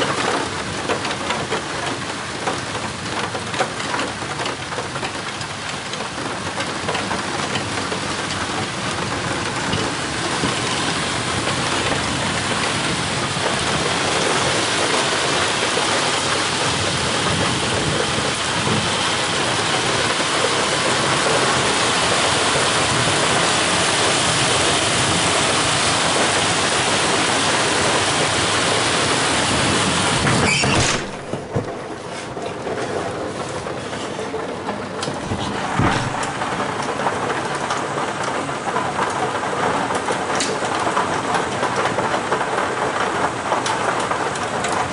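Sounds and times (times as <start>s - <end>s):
heavy rain downpour: 0.0s - 44.9s.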